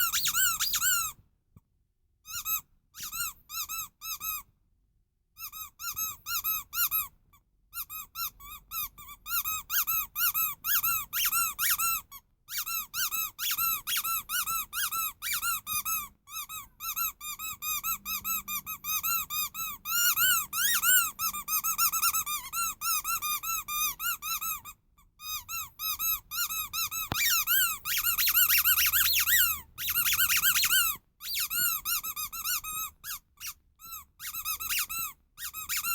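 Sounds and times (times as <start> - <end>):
rubber squeaky toy squeaking: 0.0 - 1.2, 2.2 - 4.5, 5.4 - 35.9.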